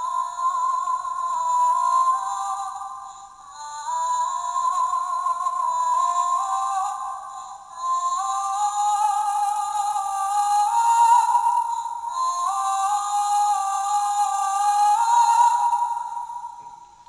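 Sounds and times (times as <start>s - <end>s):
toy playing wordless female singing: 0.0s - 16.2s.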